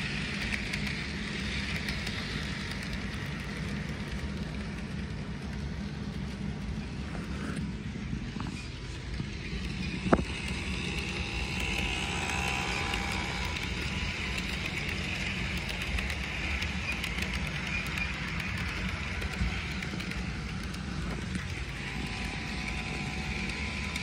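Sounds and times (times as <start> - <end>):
toy train motor whir: 0.0 - 24.0
wheels clicking over track: 0.0 - 24.0.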